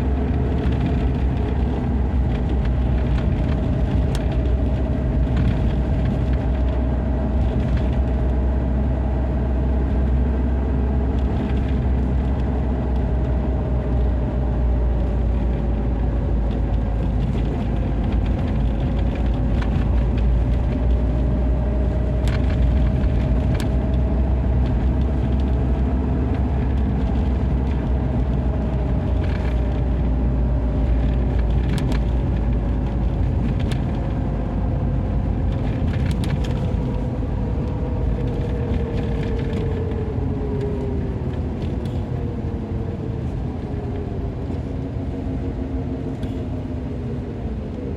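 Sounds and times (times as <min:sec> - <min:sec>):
engine and road rumble: 0:00.0 - 0:47.9.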